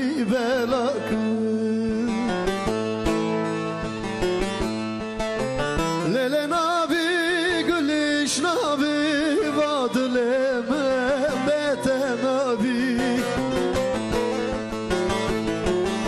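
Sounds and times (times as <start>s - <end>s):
man singing folk song: 0.0s - 2.9s, 6.0s - 16.0s
plucked lute accompaniment: 0.0s - 16.0s.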